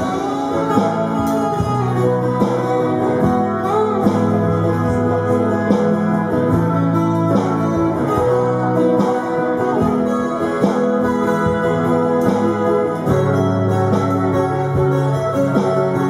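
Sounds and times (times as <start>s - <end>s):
electric guitar duet: 0.0s - 16.0s.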